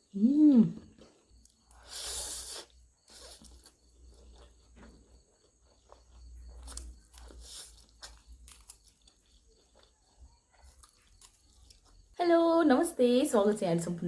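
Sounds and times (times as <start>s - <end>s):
person chewing crunchy food: 0.0s - 12.2s.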